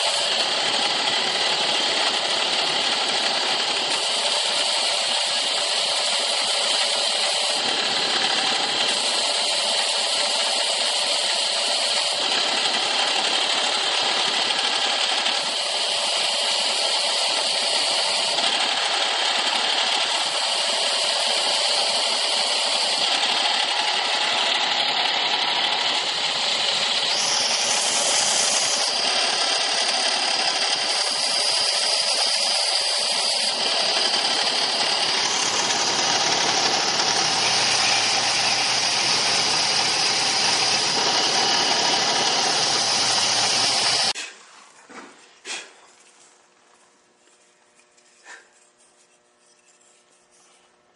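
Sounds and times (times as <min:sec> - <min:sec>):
belt sander running: 0:00.0 - 0:44.2
sander grinding wood: 0:00.0 - 0:44.6.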